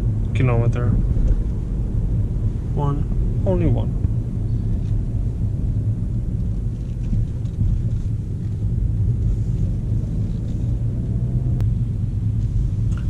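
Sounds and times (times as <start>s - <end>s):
car engine rumble in cabin: 0.0s - 13.0s
tyre and road noise: 0.0s - 13.0s.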